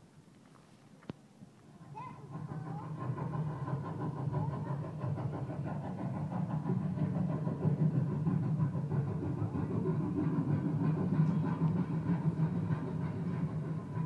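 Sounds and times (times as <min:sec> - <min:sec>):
train sound effects rumbling: 0:00.0 - 0:14.0.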